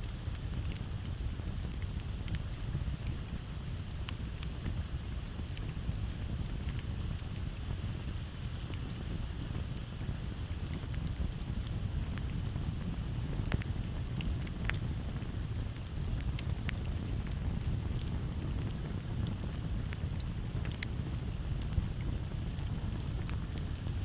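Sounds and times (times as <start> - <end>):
campfire crackling and popping: 0.0 - 24.0
low breeze rumble: 0.0 - 24.0.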